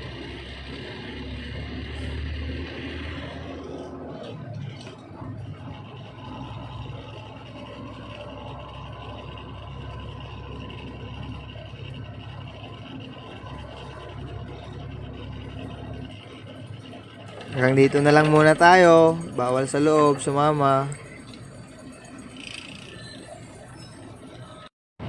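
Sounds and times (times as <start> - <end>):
truck engine humming: 0.0 - 24.7.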